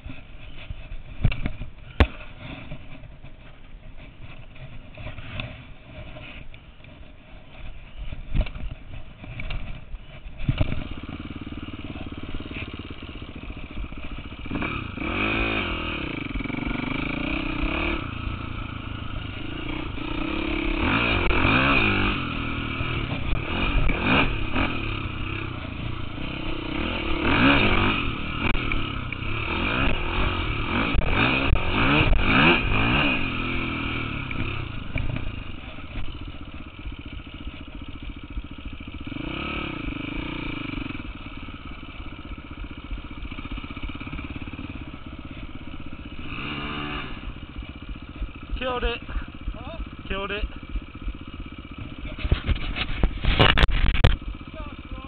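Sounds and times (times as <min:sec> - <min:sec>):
dirt bike engine revving: 0:10.4 - 0:55.0.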